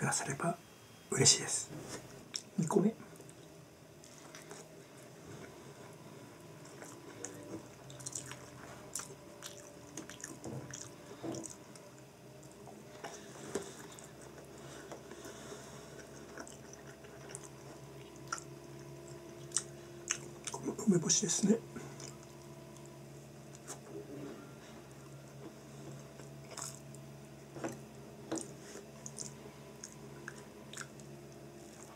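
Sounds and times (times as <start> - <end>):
person chewing: 3.2 - 4.8, 6.4 - 20.6, 21.8 - 31.9.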